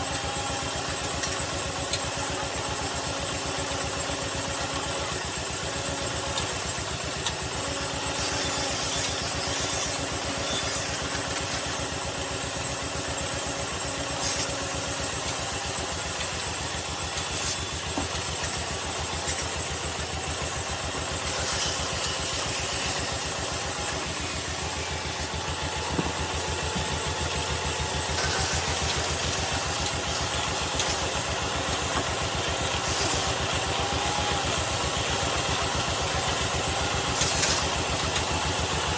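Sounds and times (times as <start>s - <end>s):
woodturning lathe humming and whining: 0.0s - 38.9s.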